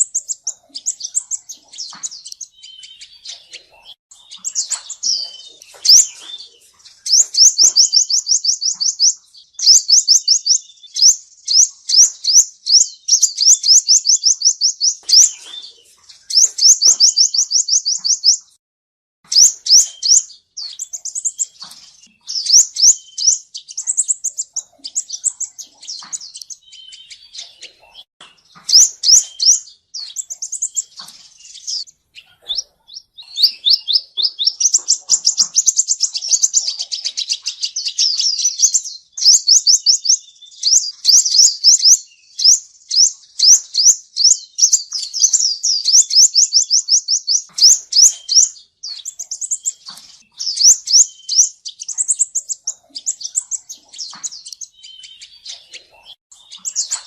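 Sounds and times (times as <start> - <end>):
sunbird singing high trills: 0.0 - 18.6, 19.3 - 57.0.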